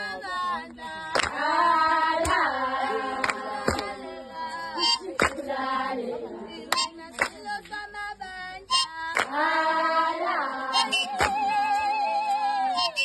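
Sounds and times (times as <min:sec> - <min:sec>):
women singing a dance song: 0:00.0 - 0:13.0.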